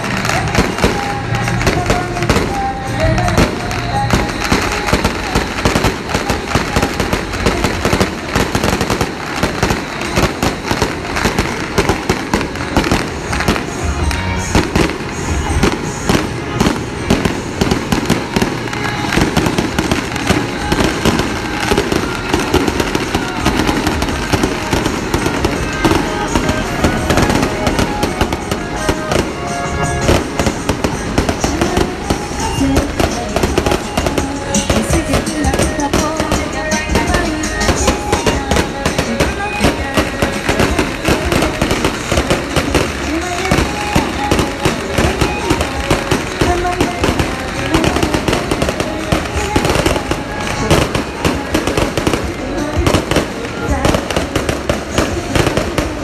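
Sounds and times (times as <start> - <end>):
firecrackers crackling bangs: 0.0 - 56.0
music playing: 0.0 - 56.0.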